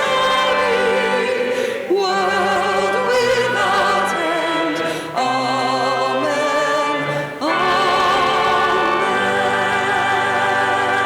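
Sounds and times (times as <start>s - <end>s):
held accompaniment chords: 0.0s - 11.0s
person singing with vibrato: 0.0s - 11.0s.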